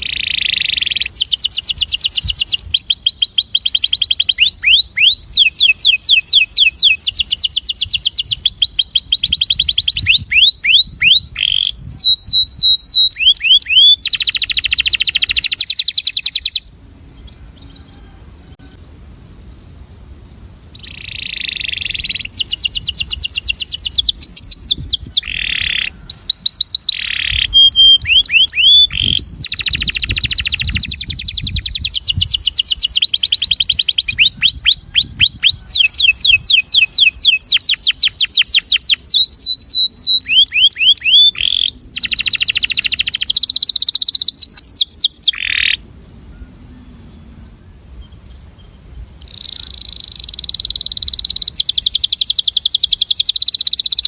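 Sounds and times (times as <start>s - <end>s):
canary singing trills: 0.0s - 18.2s, 20.7s - 54.0s.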